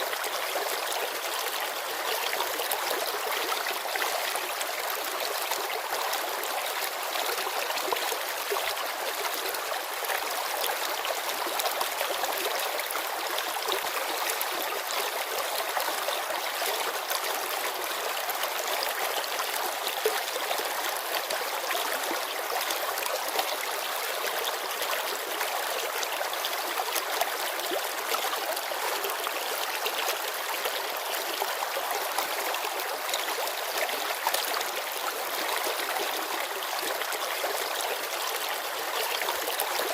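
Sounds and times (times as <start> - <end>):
river babbling over stones: 0.0 - 39.9.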